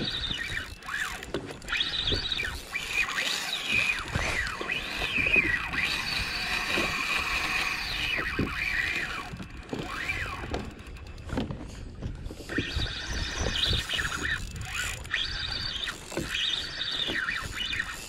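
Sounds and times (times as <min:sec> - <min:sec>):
fishing reel drag squealing: 0:00.0 - 0:11.4, 0:12.3 - 0:18.0.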